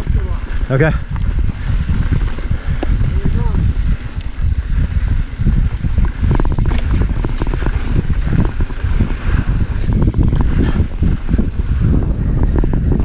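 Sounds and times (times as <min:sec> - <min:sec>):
bike clattering over bumps: 0:00.0 - 0:13.0
low rumble of bike tyres: 0:00.0 - 0:13.0
wind buffeting microphone: 0:00.0 - 0:13.0.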